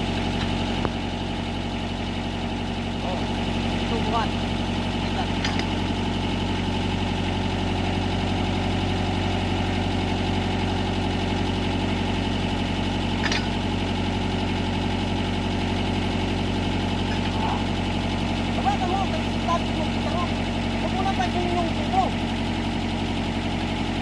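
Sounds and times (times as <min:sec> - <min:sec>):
backhoe diesel engine idling: 0:00.0 - 0:24.0.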